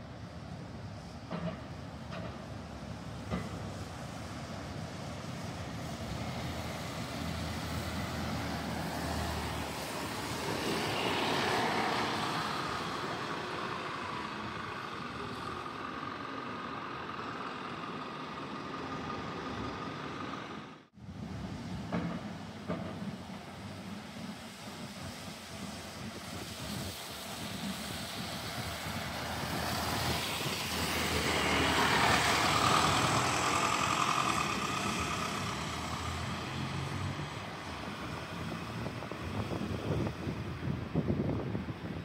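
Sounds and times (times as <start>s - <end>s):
bus driving past: 0.0s - 42.0s
street traffic: 0.0s - 42.0s.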